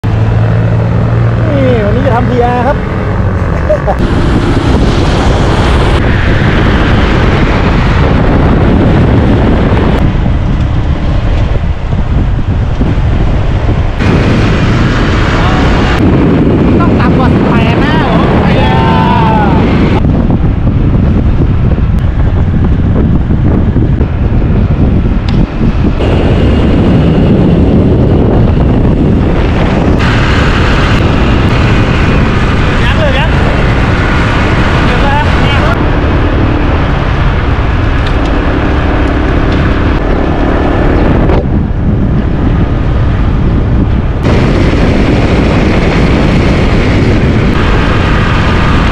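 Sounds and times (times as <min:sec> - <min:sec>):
wind buffeting on microphone: 0:00.0 - 0:48.9.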